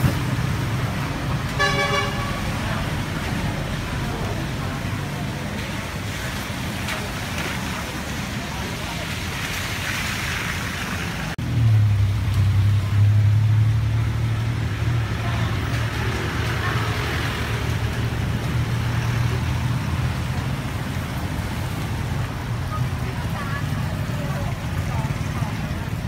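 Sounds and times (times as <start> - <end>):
traffic on wet street: 0.0 - 26.0.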